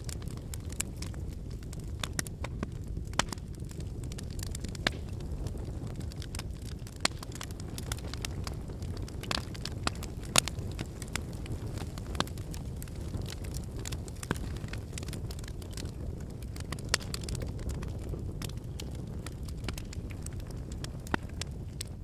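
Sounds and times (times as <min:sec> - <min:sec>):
fire flames rumbling: 0:00.0 - 0:22.0
firewood crackling and popping: 0:00.0 - 0:22.0.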